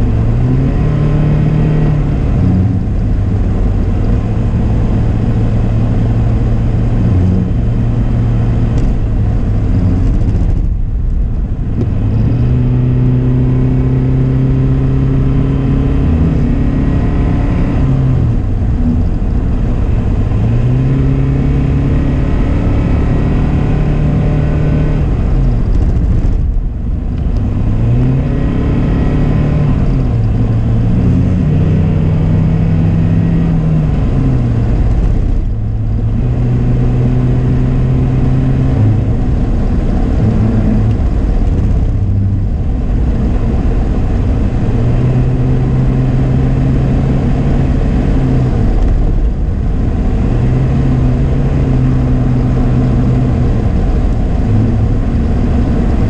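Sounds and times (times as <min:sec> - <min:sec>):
car engine revving while driving: 0:00.0 - 0:56.0
road noise inside car: 0:00.0 - 0:56.0.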